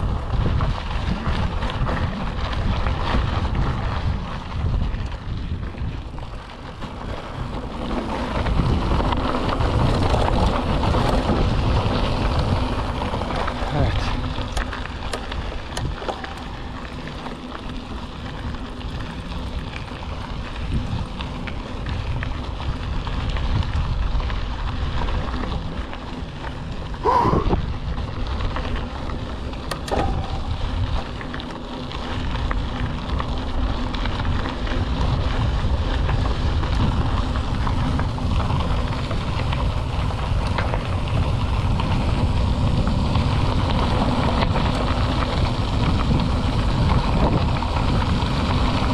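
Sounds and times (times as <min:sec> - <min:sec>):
bike tyres crunching over gravel: 0:00.0 - 0:48.9
wind buffeting microphone: 0:00.0 - 0:48.9.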